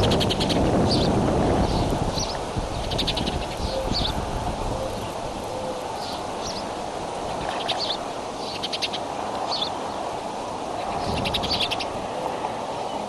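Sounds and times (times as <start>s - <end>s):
bird chirps and trills: 0.0s - 10.0s, 10.8s - 13.0s
steady background hiss: 0.0s - 13.0s.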